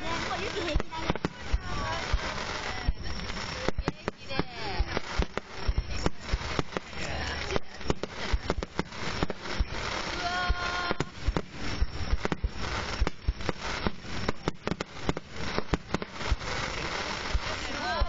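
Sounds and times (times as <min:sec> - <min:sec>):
fireworks bursting: 0:00.0 - 0:18.0
fireworks crackling: 0:00.0 - 0:18.0.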